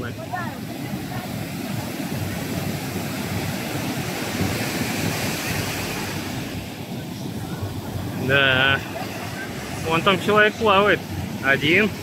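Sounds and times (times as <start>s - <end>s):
storm surf breaking: 0.0s - 12.0s
whitewater rushing up sand: 0.0s - 12.0s.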